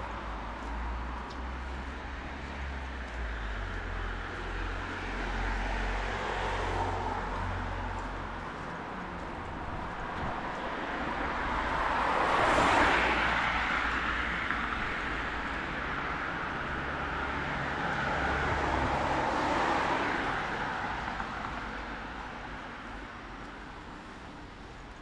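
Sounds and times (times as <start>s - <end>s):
cars passing on wet road: 0.0s - 25.0s.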